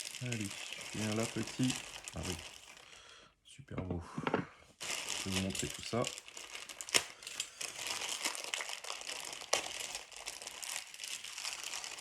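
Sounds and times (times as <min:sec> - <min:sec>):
sharp plastic crackles: 0:00.0 - 0:03.0, 0:04.8 - 0:12.0
plastic bags crinkling: 0:00.0 - 0:03.1, 0:04.8 - 0:12.0.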